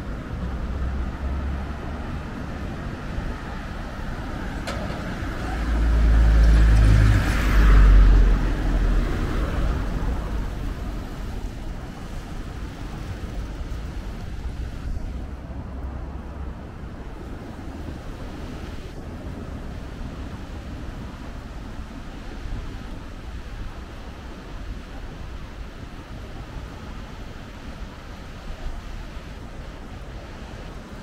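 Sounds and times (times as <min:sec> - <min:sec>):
ocean surf breaking on rocks: 0:00.0 - 0:31.0
road traffic: 0:00.0 - 0:31.0
wind rumble on microphone: 0:00.0 - 0:31.0.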